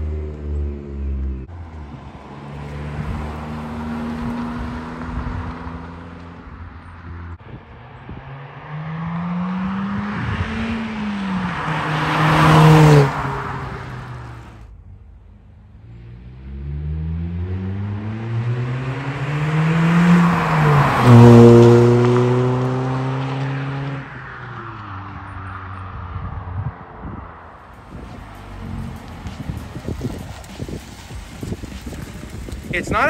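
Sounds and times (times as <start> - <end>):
car engine accelerating past: 0.0 - 14.7, 15.8 - 32.7.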